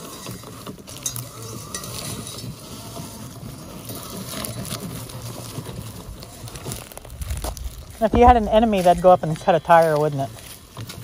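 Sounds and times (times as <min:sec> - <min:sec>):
crackle of debris: 0:00.0 - 0:11.0.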